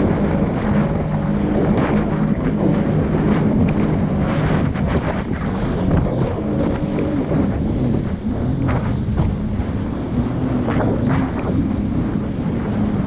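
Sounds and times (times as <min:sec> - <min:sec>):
jet ski engine running: 0:00.0 - 0:13.0
wind buffeting microphone: 0:00.0 - 0:13.0.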